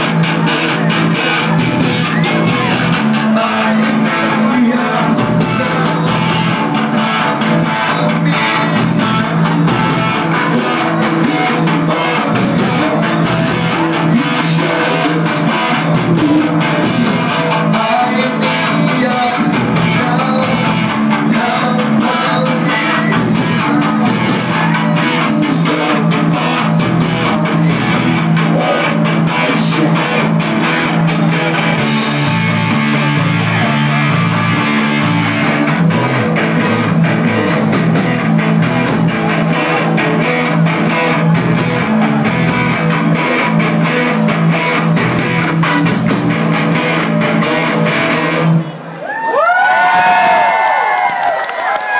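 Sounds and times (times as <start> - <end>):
bass guitar: 0.0 - 51.9
electric guitar: 0.0 - 51.9.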